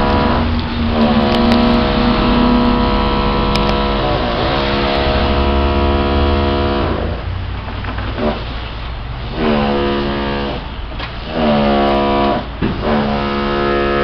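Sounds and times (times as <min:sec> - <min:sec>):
low drone: 0:00.0 - 0:14.0
traffic noise: 0:00.0 - 0:14.0
vehicle motor humming: 0:00.0 - 0:14.0.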